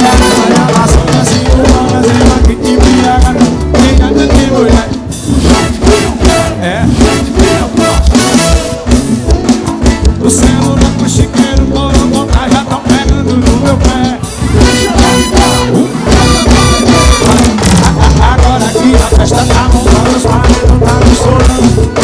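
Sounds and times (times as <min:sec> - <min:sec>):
band music with drums and bass: 0:00.0 - 0:22.0.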